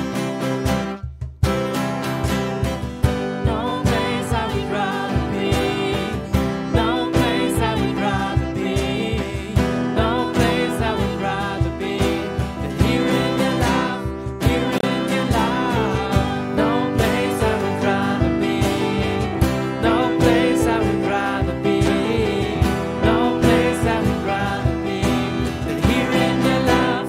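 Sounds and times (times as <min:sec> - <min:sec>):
strummed acoustic guitar: 0:00.0 - 0:27.0
steady beat: 0:00.1 - 0:27.0
person singing: 0:03.3 - 0:27.0.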